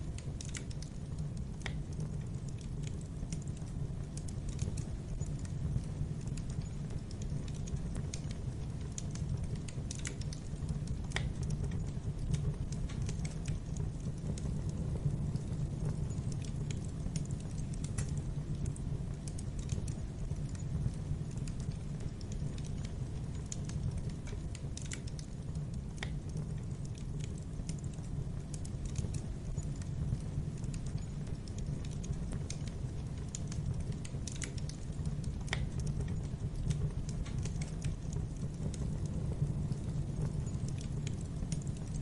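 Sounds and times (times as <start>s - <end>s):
fire crackling: 0.0s - 42.0s
fire pops and snaps: 0.0s - 42.0s.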